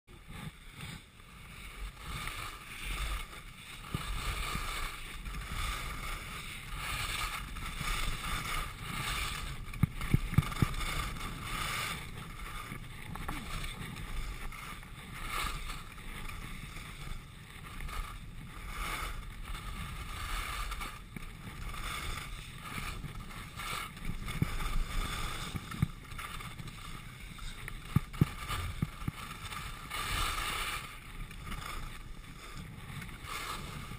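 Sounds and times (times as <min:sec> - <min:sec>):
skis scraping over snow: 0:00.1 - 0:33.9
wind on microphone: 0:00.2 - 0:33.9.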